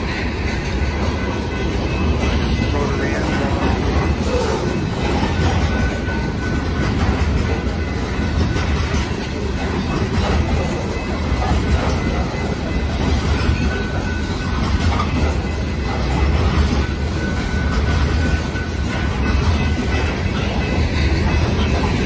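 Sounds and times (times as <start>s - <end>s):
freight train rumbling past: 0.0s - 22.0s
steel wheels clattering over rail joints: 0.0s - 22.0s.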